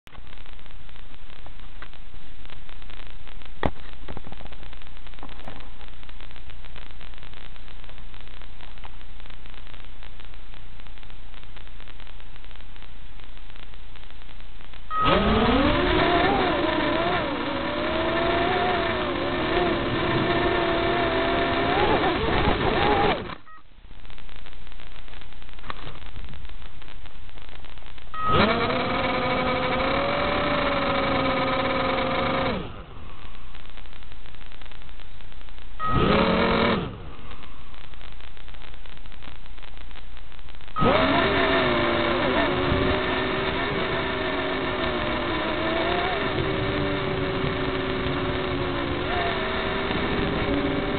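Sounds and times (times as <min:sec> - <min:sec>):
buzzing whine: 0:00.1 - 0:50.9
low hum: 0:00.1 - 0:50.9
radio static hiss: 0:00.1 - 0:50.9.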